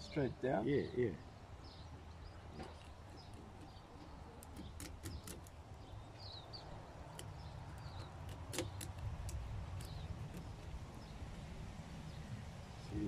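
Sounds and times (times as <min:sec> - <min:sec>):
bird chirps: 0:00.0 - 0:11.4.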